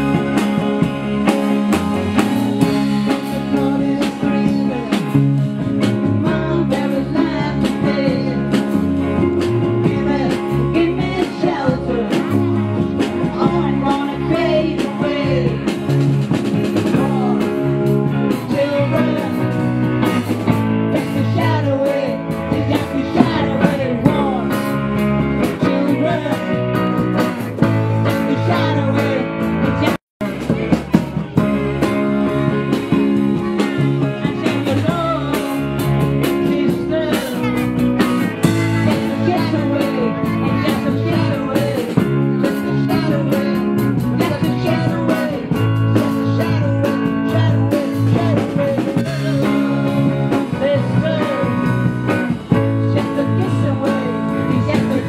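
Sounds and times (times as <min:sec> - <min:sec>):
band playing electric guitars: 0:00.0 - 0:55.0
person singing: 0:00.0 - 0:55.0.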